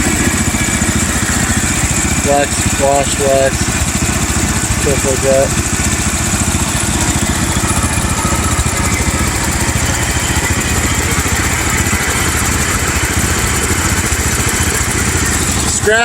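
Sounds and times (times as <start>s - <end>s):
garden tractor engine idling: 0.0s - 16.0s.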